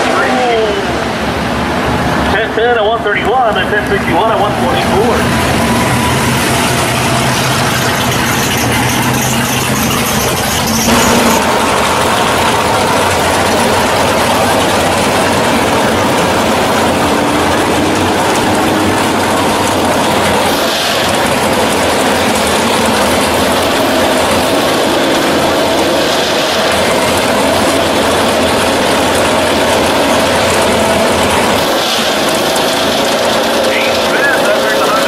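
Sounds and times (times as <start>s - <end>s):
drag car engines idling: 0.0s - 35.0s.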